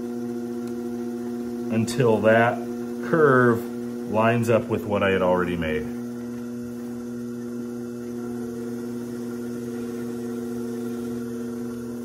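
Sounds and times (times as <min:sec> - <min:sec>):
pottery wheel motor humming: 0:00.0 - 0:12.0.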